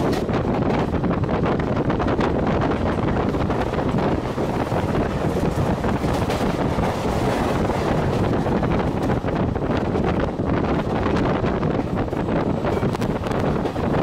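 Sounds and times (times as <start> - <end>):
passenger train running: 0.0 - 14.0
wind on microphone: 0.0 - 14.0.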